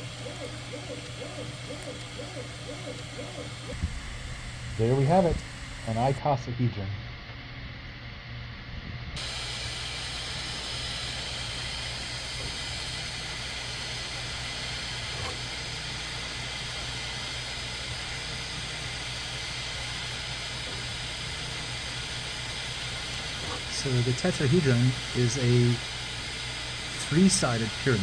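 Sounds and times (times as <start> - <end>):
cooling fans running: 0.0 - 28.0.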